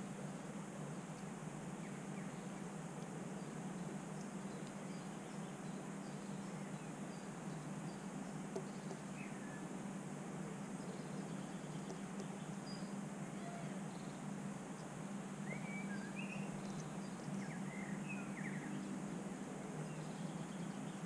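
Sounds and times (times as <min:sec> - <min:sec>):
outdoor background hiss: 0:00.0 - 0:21.0
songbird chirps: 0:00.0 - 0:21.0.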